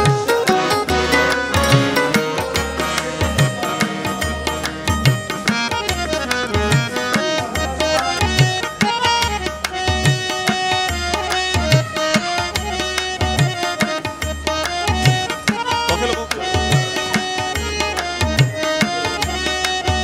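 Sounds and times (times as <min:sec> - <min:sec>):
melodic line: 0:00.0 - 0:20.0
pitch-bending drum rhythm: 0:00.0 - 0:20.0.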